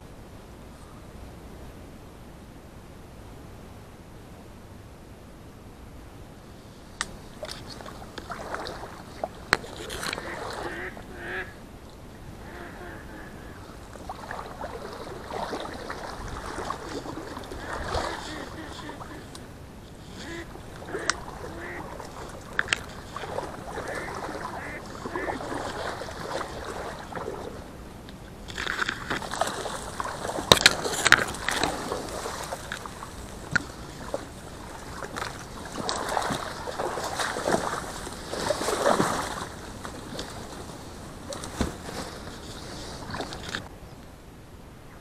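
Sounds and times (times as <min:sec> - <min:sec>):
reed stems rustling: 0:06.4 - 0:44.0
water sloshing: 0:06.7 - 0:43.8.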